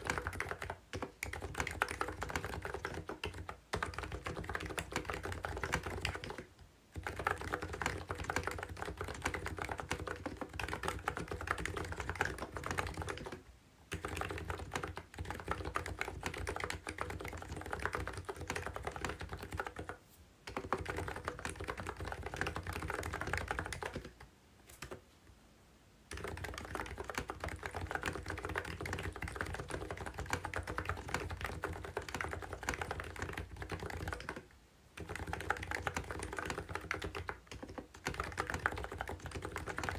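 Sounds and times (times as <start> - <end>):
fast keyboard typing: 0.0 - 25.0, 26.1 - 39.9.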